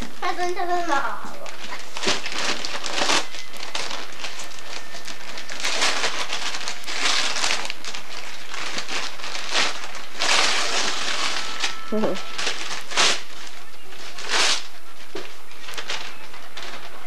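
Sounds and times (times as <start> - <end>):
wrapping paper ripping and crinkling: 0.0 - 17.0.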